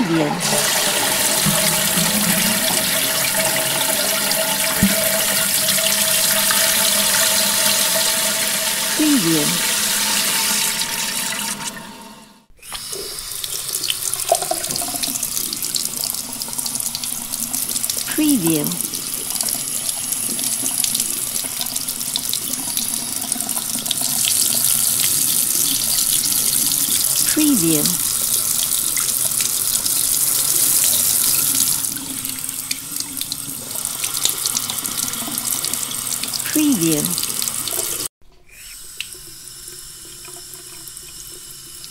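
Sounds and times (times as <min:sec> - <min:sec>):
tap water running: 0:00.2 - 0:09.0, 0:09.6 - 0:18.1, 0:18.8 - 0:27.3, 0:28.0 - 0:36.4, 0:37.1 - 0:38.1, 0:38.8 - 0:41.9.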